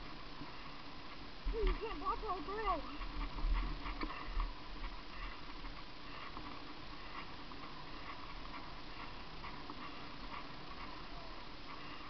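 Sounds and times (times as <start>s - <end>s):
bicycle rolling on pavement: 0.0s - 12.0s
light irregular ticking: 0.0s - 12.0s.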